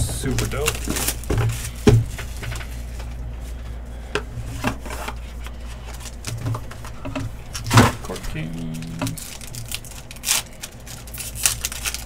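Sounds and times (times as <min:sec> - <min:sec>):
low hum: 0:00.0 - 0:11.7
hands rustling foil packs: 0:00.0 - 0:12.0.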